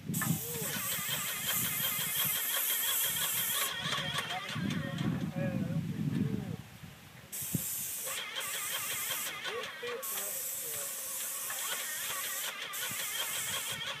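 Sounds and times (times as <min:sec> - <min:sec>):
paint spray gun hissing: 0:00.0 - 0:04.9, 0:07.3 - 0:14.0.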